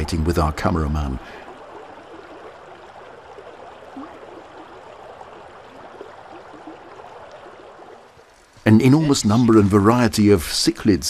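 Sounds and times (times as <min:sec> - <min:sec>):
river water gurgling: 0:00.0 - 0:11.0.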